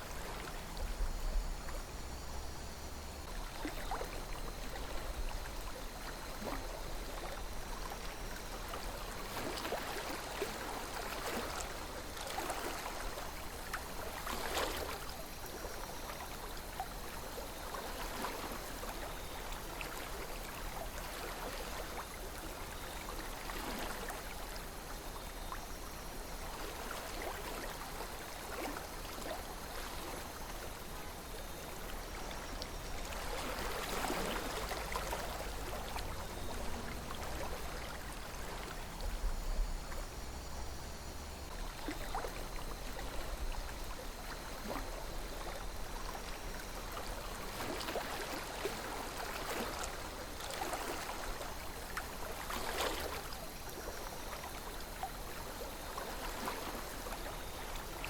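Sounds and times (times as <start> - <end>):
river water flowing gently: 0.0 - 58.0.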